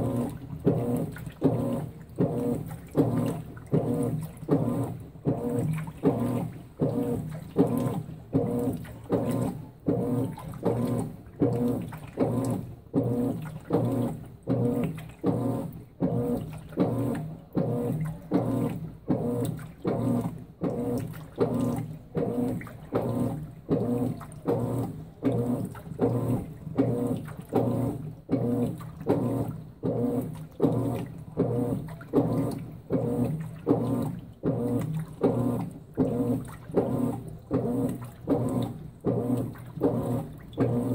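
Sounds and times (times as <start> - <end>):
motor hum: 0.0 - 40.9
washing machine agitator swishing: 0.0 - 40.9
water sloshing in tub: 0.0 - 40.9.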